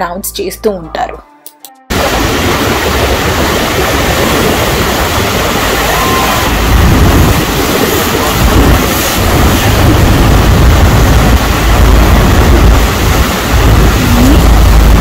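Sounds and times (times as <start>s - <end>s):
waterfall rushing: 1.9s - 15.0s
wind rumbling on microphone: 1.9s - 15.0s.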